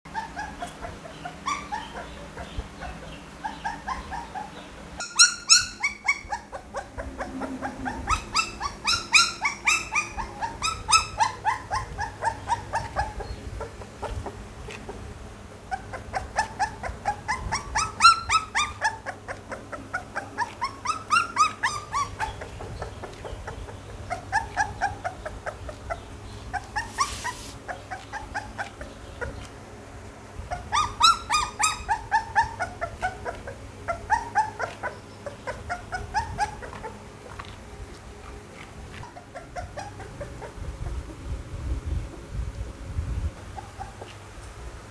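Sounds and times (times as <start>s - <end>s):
puppies crying: 0.1s - 29.6s, 30.4s - 41.2s, 43.4s - 44.5s.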